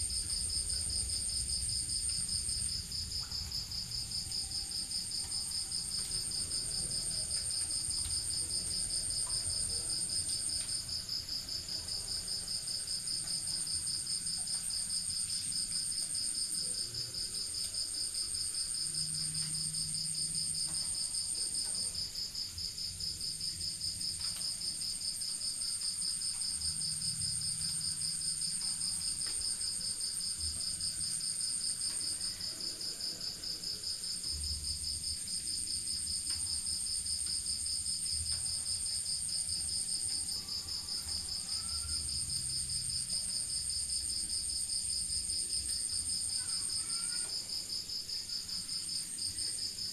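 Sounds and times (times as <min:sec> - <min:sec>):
crickets trilling: 0:00.0 - 0:49.9
higher-pitched cricket trill: 0:00.0 - 0:49.9.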